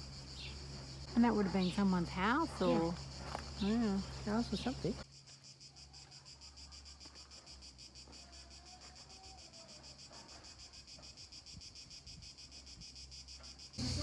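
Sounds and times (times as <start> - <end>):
insect chorus chirring: 0.0 - 14.0.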